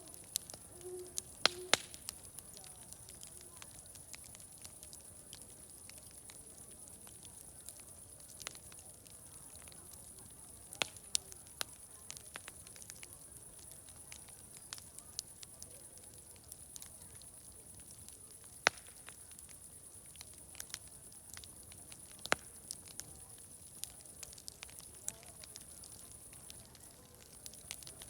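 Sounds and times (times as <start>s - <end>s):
fire pops and snaps: 0.0s - 28.0s
wood fire crackling: 0.0s - 28.0s.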